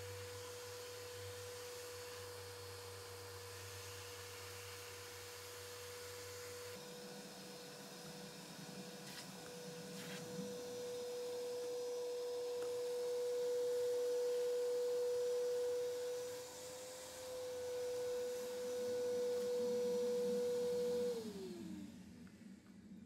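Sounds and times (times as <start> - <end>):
vacuum motor winding down: 0.0 - 22.4
shop vacuum whining: 0.0 - 22.8.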